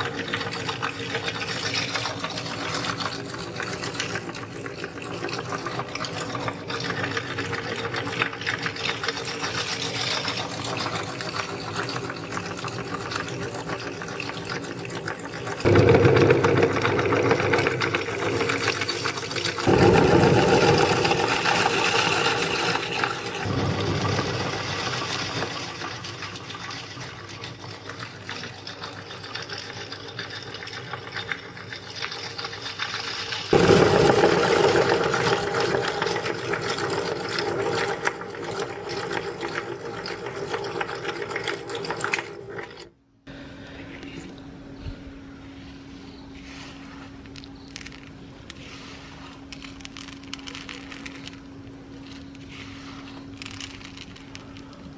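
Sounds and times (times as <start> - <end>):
meat grinder crushing candy: 0.0 - 42.9, 49.4 - 54.9
steady hum with light crackling: 0.0 - 54.9.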